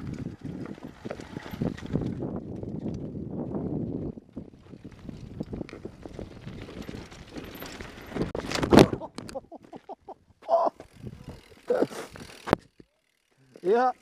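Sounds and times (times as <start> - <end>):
mountain bike rattling over gravel: 0.0 - 10.0, 10.8 - 14.0.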